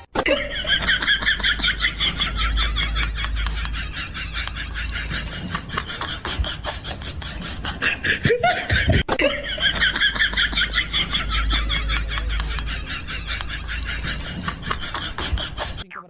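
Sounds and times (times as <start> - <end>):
pulsing laughter: 0.0 - 15.9.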